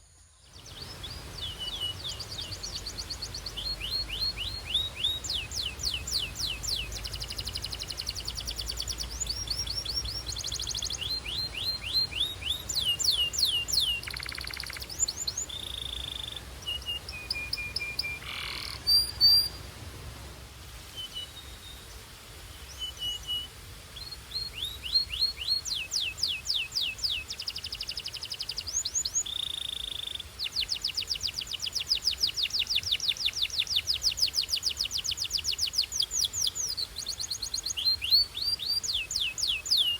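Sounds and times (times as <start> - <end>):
canary singing trills: 0.5 - 19.6, 22.6 - 39.9.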